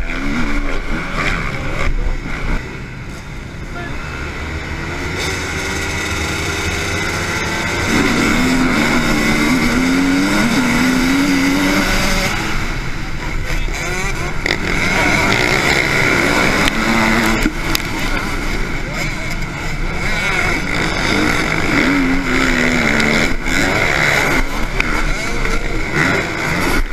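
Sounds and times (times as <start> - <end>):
motocross bike engines revving: 0.0 - 26.9.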